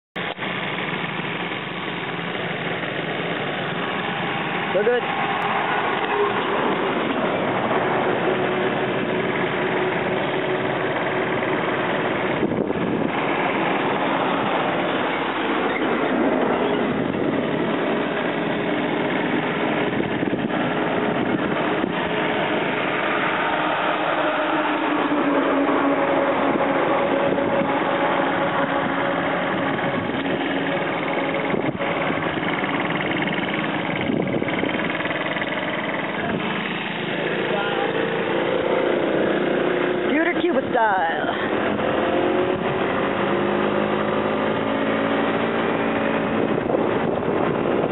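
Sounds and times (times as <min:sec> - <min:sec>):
small scooter engine droning: 0:00.2 - 0:47.9
truck passing: 0:00.2 - 0:47.9
wind and road noise rushing: 0:00.2 - 0:47.9.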